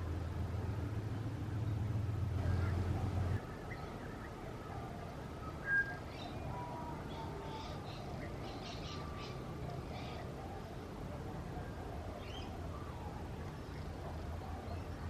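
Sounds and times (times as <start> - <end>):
low steady hum: 0.0 - 15.0
birds singing: 1.6 - 15.0.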